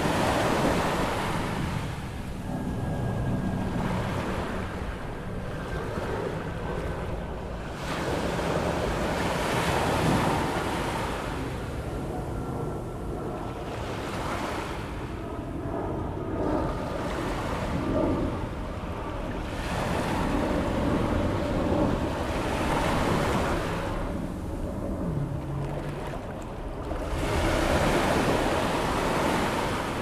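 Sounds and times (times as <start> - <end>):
ocean waves breaking: 0.0 - 15.8, 16.4 - 30.0.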